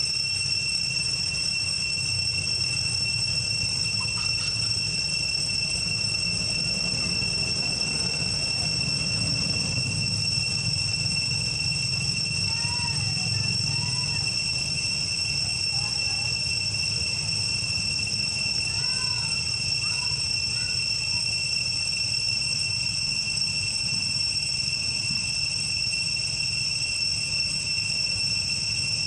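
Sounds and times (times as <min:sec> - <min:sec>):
faint chirps: 0:00.0 - 0:24.0
cicadas droning: 0:00.0 - 0:29.0.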